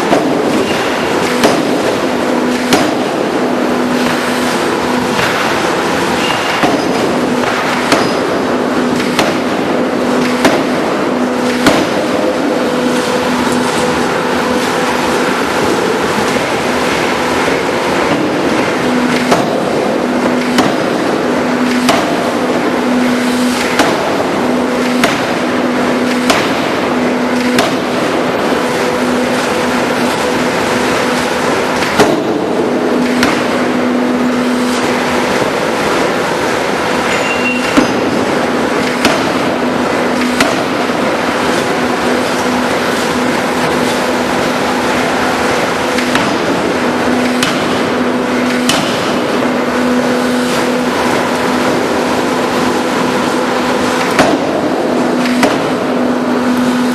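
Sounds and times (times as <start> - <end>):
loud continuous hum: 0.0 - 56.9.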